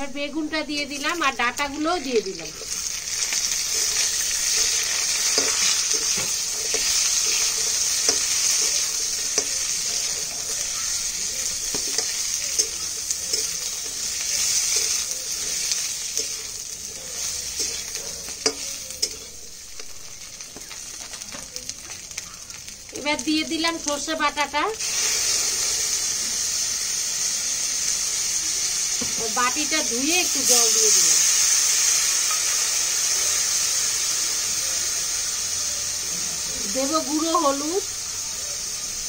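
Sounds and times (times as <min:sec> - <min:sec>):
vegetables sizzling in hot oil: 0:00.0 - 0:39.0.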